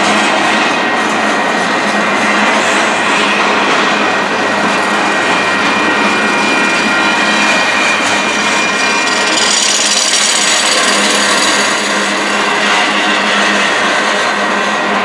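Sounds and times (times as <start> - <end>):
steel wheels grinding on rail: 0.0 - 15.0
high ringing wheel squeal: 0.9 - 15.0.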